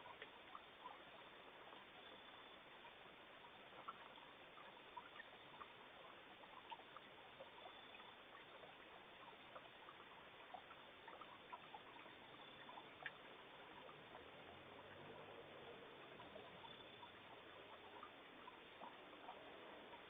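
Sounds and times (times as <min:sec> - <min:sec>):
faint steady hiss: 0:00.0 - 0:20.0
small ticks and clicks: 0:00.0 - 0:20.0.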